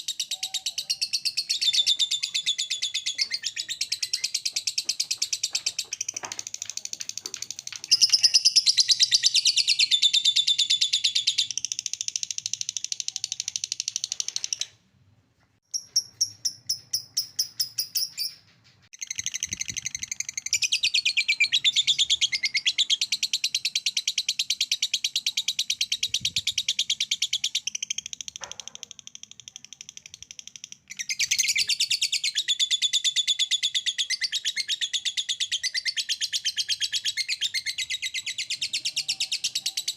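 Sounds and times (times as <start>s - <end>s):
bird chirps: 0.0s - 14.8s, 15.7s - 39.9s.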